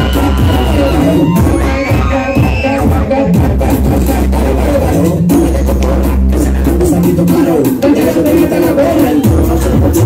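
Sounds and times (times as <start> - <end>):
loud dance music: 0.0 - 10.0.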